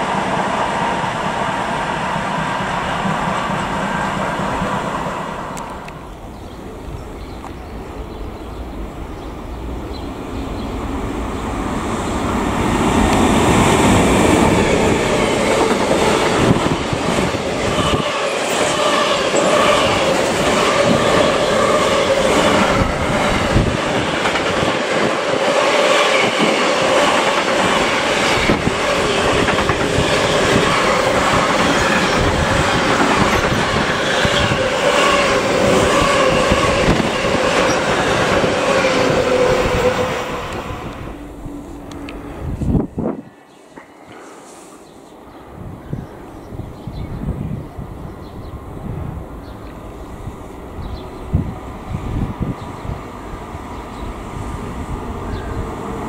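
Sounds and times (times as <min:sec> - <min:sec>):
steady train whine: 0:00.0 - 0:56.0.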